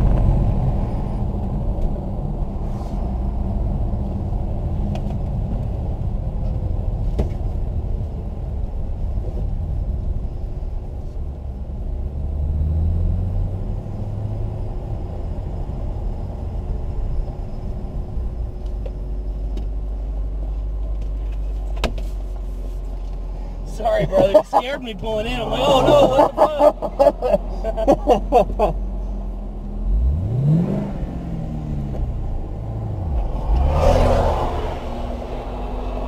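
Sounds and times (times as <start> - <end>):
car engine rumbling at low speed: 0.0 - 36.0.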